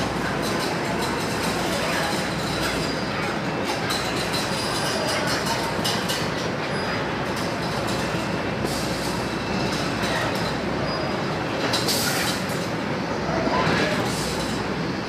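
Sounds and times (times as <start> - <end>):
conveyor mechanical noise: 0.0 - 15.0.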